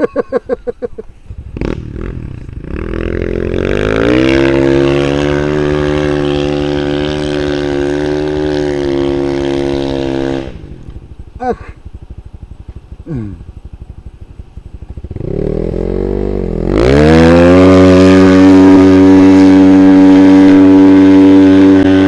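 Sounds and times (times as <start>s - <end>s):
motorcycle engine revving: 1.2s - 22.0s.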